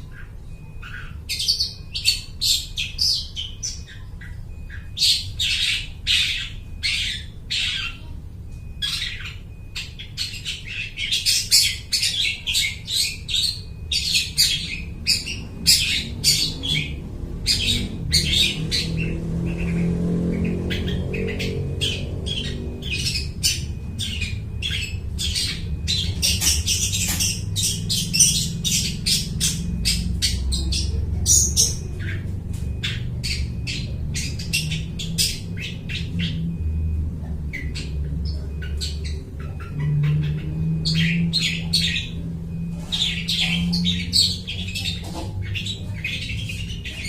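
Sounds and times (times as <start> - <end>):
bird singing harsh scratchy notes: 0.0 - 47.0.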